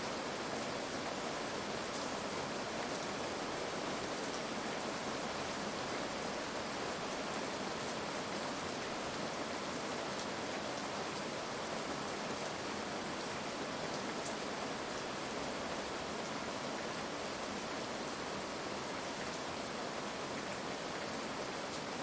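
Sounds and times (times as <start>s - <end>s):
heavy rainfall: 0.0s - 22.0s.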